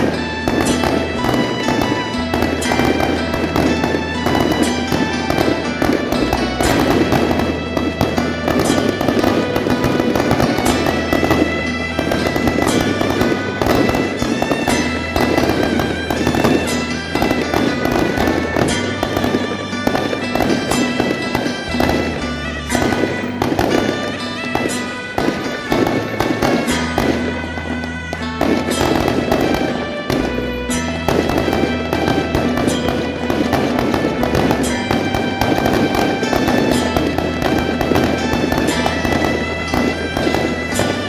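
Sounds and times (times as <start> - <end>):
firecrackers crackling: 0.0 - 41.0
loud music: 0.0 - 41.0.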